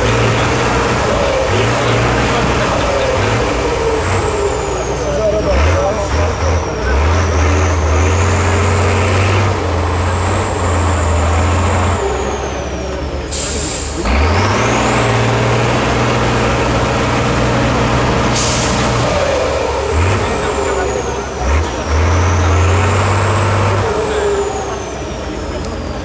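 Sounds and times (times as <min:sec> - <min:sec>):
truck diesel engine labouring: 0:00.0 - 0:26.0.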